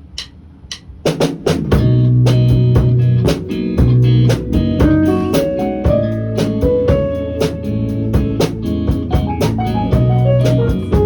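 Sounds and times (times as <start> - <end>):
drum kit beat: 0.0 - 11.0
bass notes: 1.6 - 11.0
guitar chords: 1.8 - 11.0.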